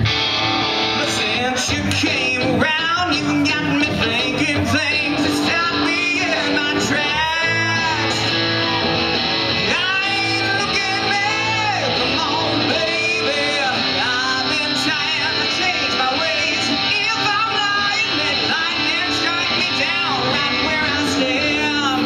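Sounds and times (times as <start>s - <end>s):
rock band playing: 0.0s - 22.0s
man singing: 0.8s - 8.8s, 9.6s - 22.0s.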